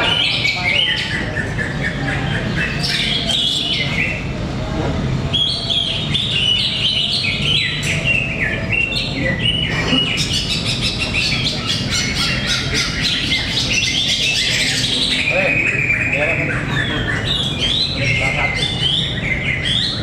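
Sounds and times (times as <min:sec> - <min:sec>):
birds singing: 0:00.0 - 0:20.0
steady low hum: 0:00.0 - 0:20.0.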